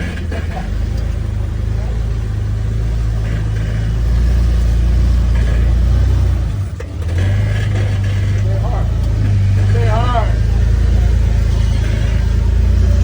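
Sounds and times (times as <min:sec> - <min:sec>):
off-road vehicle engine rumble: 0:00.0 - 0:13.0.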